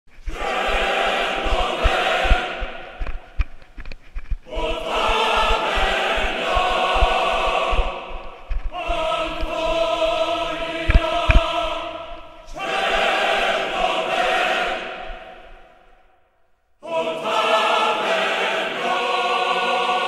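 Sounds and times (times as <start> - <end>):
choir singing held chords: 0.2 - 3.4, 4.4 - 16.2, 16.8 - 20.0.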